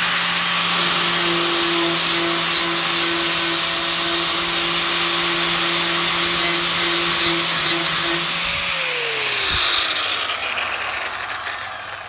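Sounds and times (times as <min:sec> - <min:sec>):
grinder disc spinning down: 0:00.0 - 0:12.0
power grinder grinding metal: 0:00.0 - 0:12.0.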